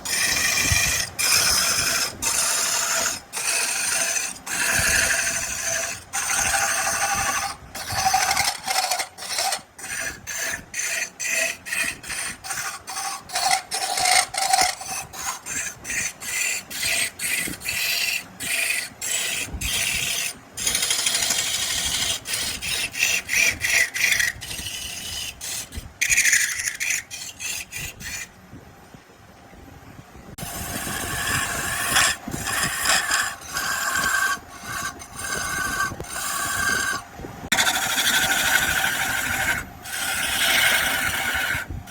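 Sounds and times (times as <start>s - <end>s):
wood being rasped by hand: 0.0s - 28.3s, 30.4s - 41.9s.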